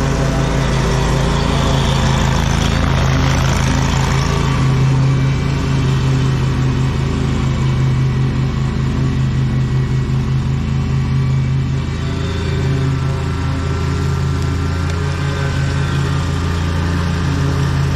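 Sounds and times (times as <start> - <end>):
lawn mower engine running: 0.0 - 17.9.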